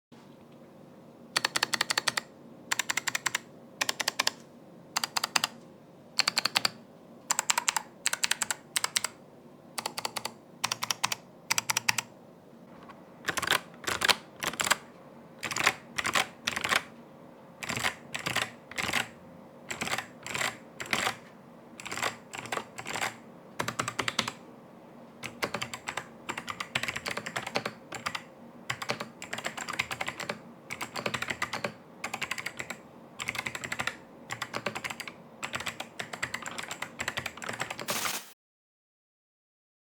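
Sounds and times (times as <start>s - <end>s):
mechanical keyboard typing: 1.4s - 4.4s, 5.0s - 5.6s, 6.2s - 9.2s, 9.8s - 12.1s, 13.2s - 16.9s, 17.6s - 24.4s, 25.2s - 38.2s.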